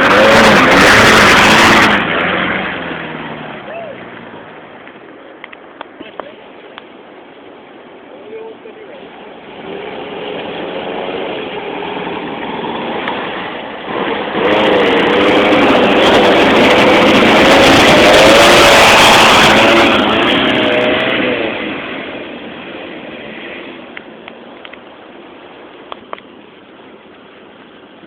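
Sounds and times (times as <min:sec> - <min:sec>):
car engine revving: 0:00.0 - 0:05.0, 0:09.0 - 0:27.4.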